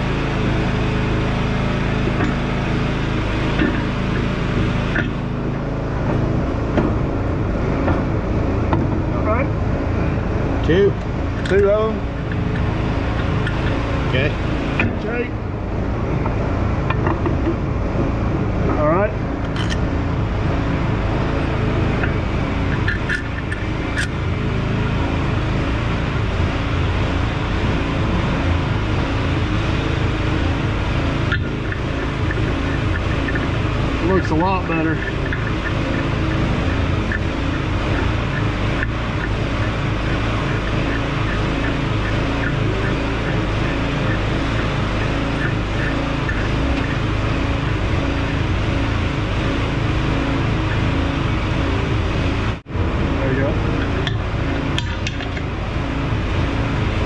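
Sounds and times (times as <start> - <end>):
motor drone: 0.0 - 57.0.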